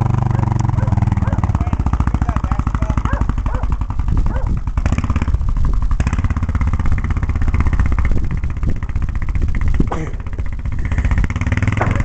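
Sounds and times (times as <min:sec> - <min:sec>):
atv engine running hard: 0:00.0 - 0:12.0.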